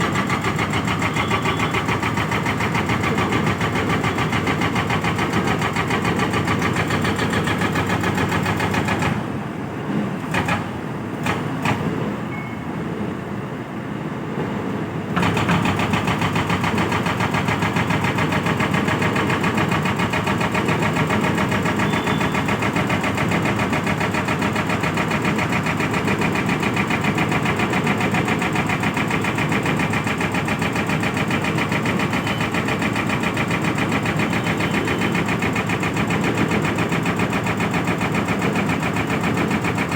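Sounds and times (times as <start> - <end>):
excavator engine running: 0.0 - 9.3, 15.1 - 39.9.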